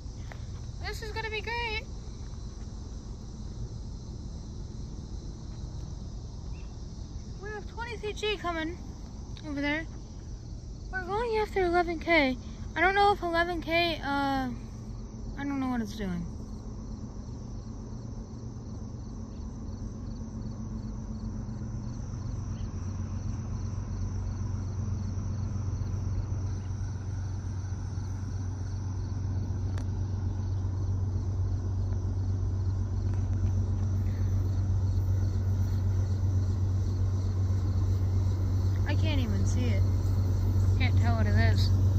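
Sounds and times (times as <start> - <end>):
crickets chirping: 0.0 - 41.9
diesel locomotive rumble: 0.0 - 41.9.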